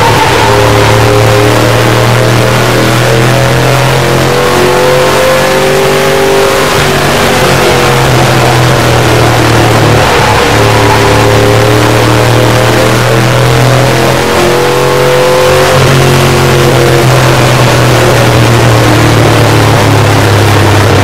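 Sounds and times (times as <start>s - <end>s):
truck engine running hard: 0.0s - 21.0s.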